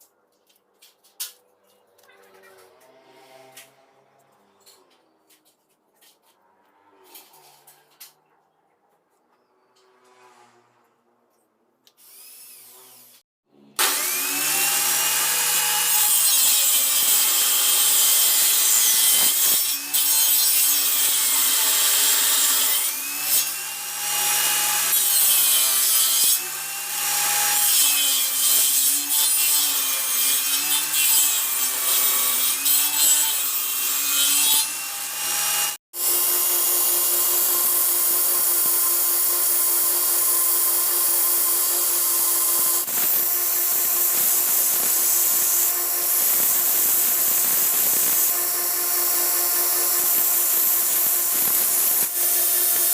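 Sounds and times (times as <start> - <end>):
power tool grinding: 2.0 - 7.9, 11.9 - 13.2, 13.8 - 52.9.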